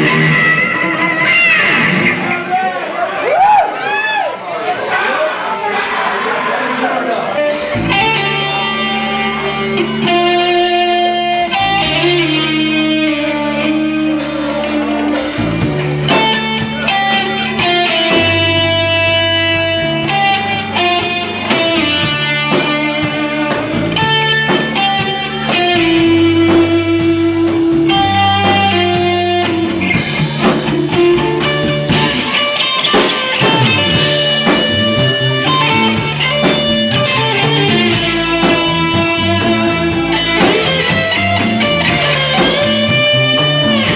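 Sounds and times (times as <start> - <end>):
electric guitar lead notes: 0.0 - 2.5, 7.3 - 43.9
bass guitar: 0.0 - 2.6, 7.3 - 43.9
drums: 0.0 - 4.2, 7.3 - 43.9.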